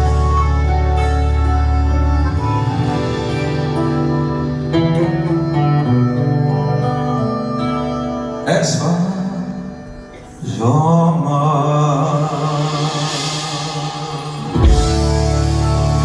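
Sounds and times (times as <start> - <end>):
guitar chords: 0.0 - 16.0
keyboard chords: 0.0 - 16.0
person singing: 0.0 - 16.0.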